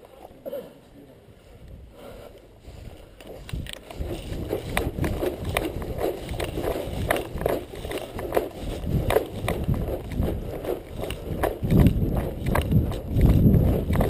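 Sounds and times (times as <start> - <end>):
footsteps through long grass: 2.5 - 14.0.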